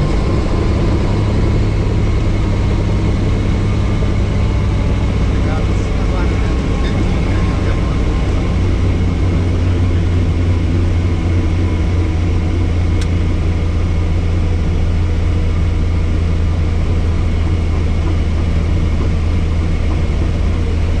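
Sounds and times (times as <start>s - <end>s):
helicopter engine and rotor hum: 0.0s - 21.0s.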